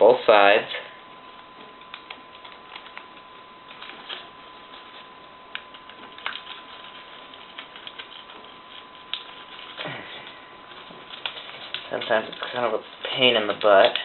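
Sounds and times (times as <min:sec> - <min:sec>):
faint thin whine: 0:00.0 - 0:14.0
paper crinkling: 0:01.3 - 0:14.0.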